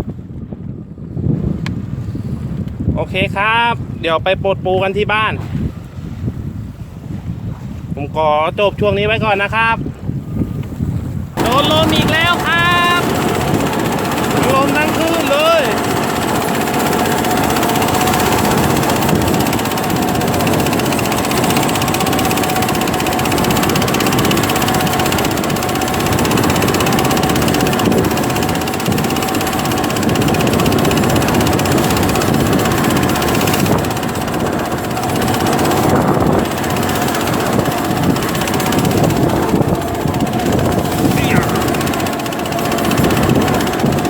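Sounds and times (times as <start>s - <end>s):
wind noise: 0.0s - 44.0s
boat engine droning: 8.6s - 44.0s.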